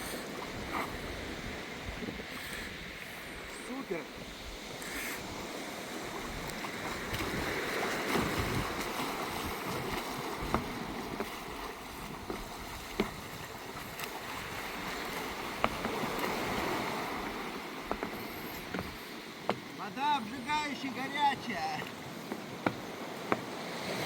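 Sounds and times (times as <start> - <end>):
sea water washing onto shore: 0.0 - 24.0.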